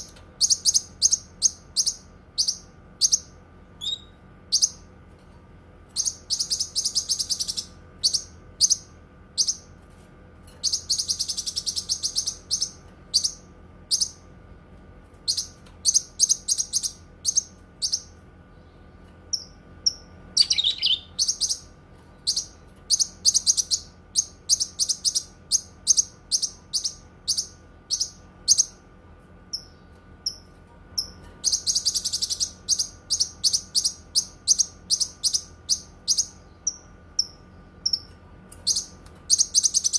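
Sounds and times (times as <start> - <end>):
songbird singing rapid trills: 0.0 - 4.8, 6.0 - 9.6, 10.6 - 14.2, 15.3 - 28.7, 31.0 - 39.9
faint steady hum: 0.0 - 39.9.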